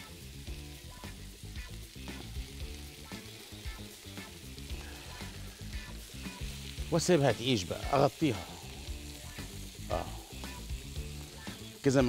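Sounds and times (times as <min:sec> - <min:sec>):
onions sizzling in a frying pan: 0:00.0 - 0:12.0.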